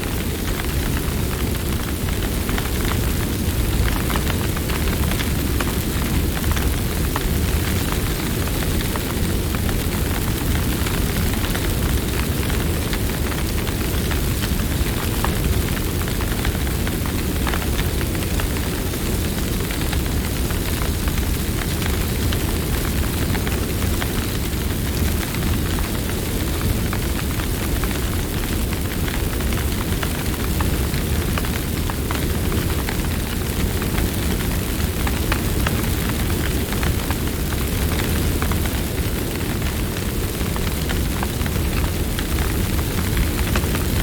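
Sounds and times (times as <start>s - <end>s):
rush of flames: 0.0s - 44.0s
wood crackling and popping: 0.1s - 44.0s.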